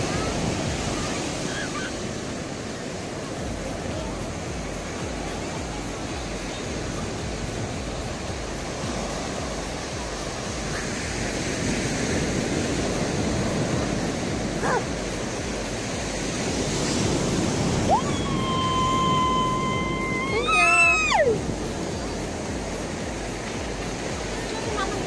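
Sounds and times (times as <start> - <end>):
waves breaking on shore: 0.0 - 25.0.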